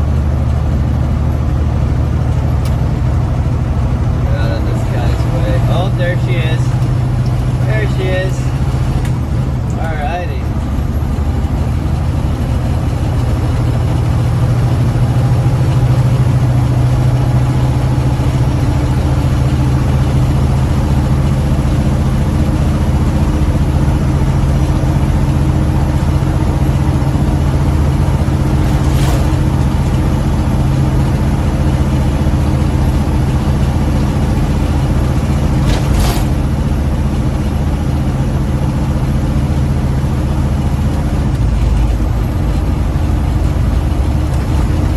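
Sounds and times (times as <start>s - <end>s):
diesel truck engine under load: 0.0s - 44.9s.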